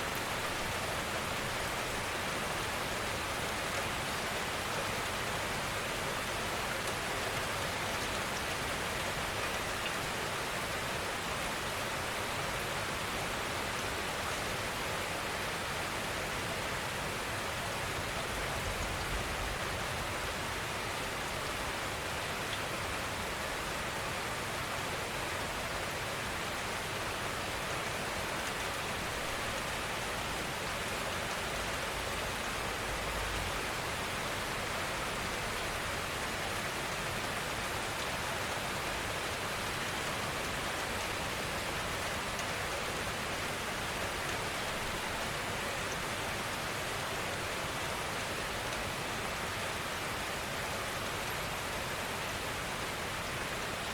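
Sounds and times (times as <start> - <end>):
steady rainfall: 0.0 - 53.9.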